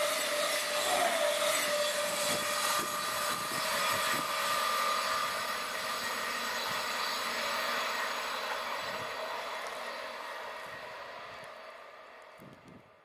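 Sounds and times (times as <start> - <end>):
passenger train rushing past: 0.0 - 13.0.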